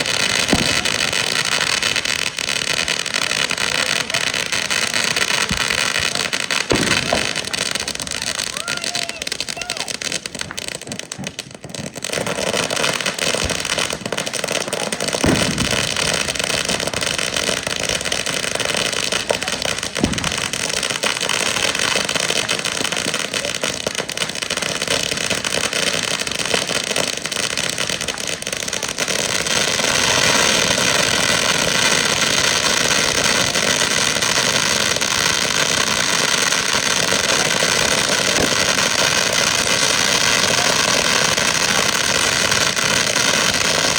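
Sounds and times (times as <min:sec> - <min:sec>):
firework fountains hissing: 0:00.0 - 0:43.9
short firework pops: 0:00.0 - 0:43.9.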